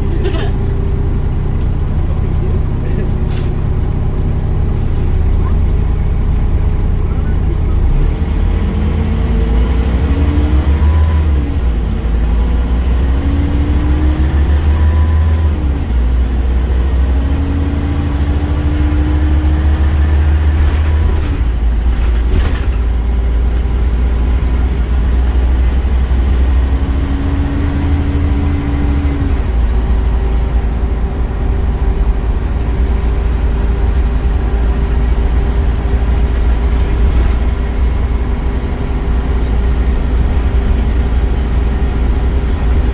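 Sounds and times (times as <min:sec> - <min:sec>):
bus engine drone: 0:00.0 - 0:42.9.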